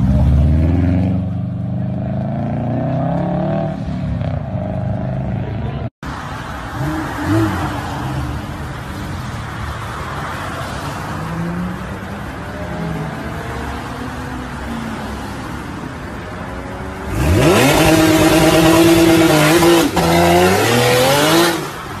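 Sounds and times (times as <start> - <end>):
highway traffic noise: 0.0 - 22.0.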